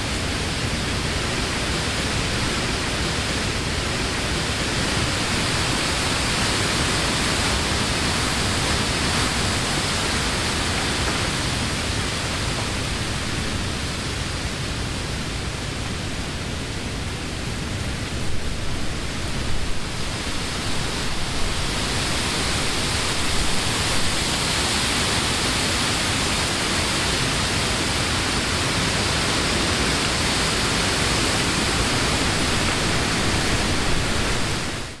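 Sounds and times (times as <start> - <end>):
wind rustling leaves: 0.0 - 35.0.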